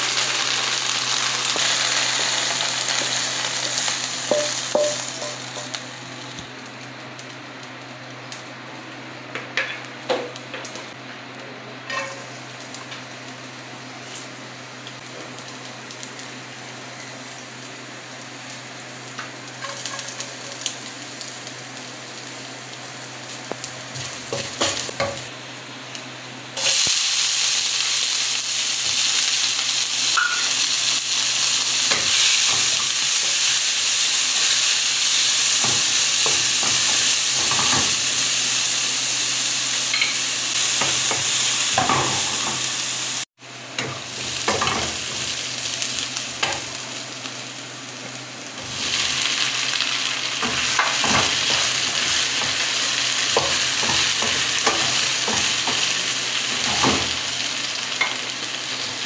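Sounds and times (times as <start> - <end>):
garlic sizzling in oil: 0.0 - 6.6, 11.9 - 59.0
onions sizzling loudly: 0.0 - 7.8, 11.9 - 59.0.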